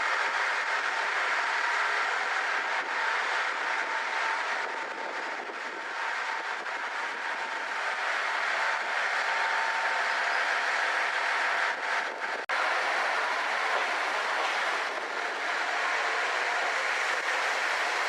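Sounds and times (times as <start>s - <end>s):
diesel railcar engine: 0.0s - 18.0s
train wheels on rail: 0.0s - 18.0s.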